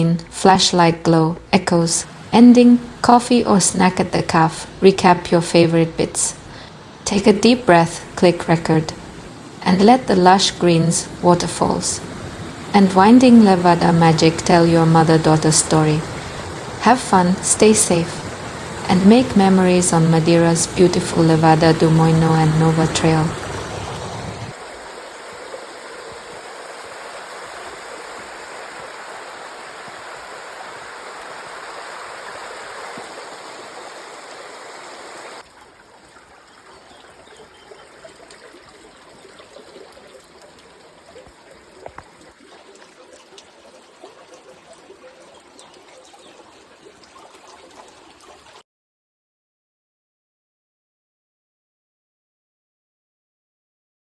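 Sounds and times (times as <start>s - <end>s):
running water rushing: 1.7s - 48.6s
water trickling: 1.9s - 48.6s.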